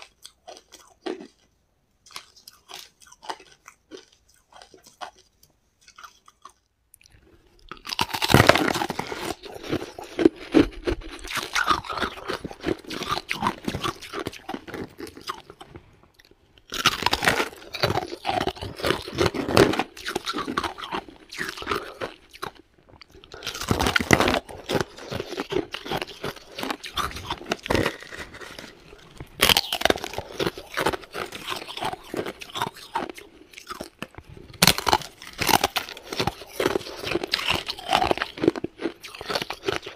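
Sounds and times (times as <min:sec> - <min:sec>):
ice crunching in mouth: 0:07.7 - 0:39.9.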